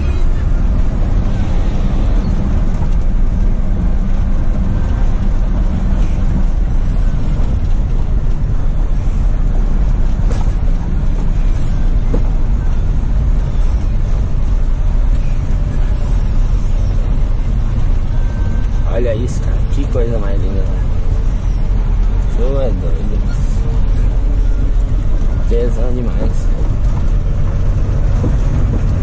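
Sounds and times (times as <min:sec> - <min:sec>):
diesel truck engine running: 0:00.0 - 0:29.0
road noise: 0:00.0 - 0:29.0.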